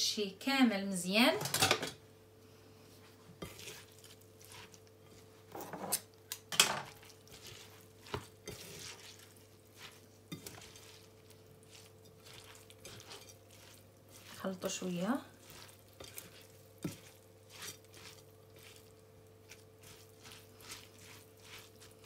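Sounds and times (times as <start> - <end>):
faint steady hum: 0.0 - 22.0
spatula scraping a bowl: 3.4 - 22.0.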